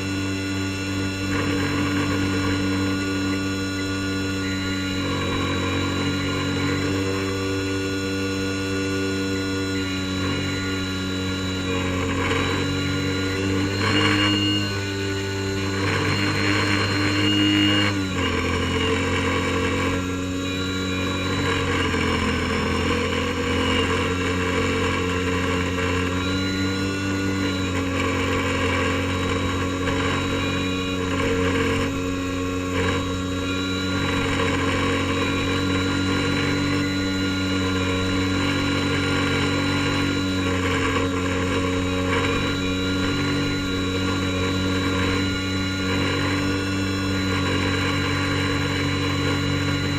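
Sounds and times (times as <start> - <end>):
airboat engine and propeller: 0.0 - 49.9.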